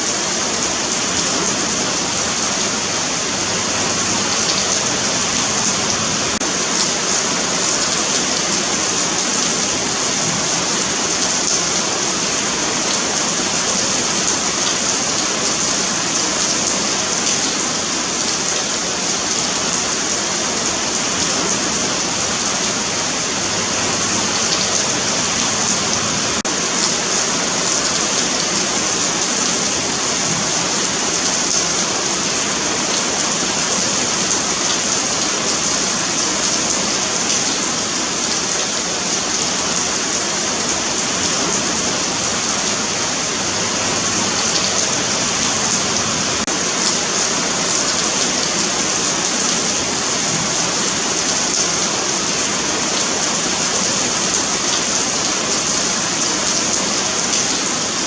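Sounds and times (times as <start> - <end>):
rain on pavement: 0.0 - 58.0.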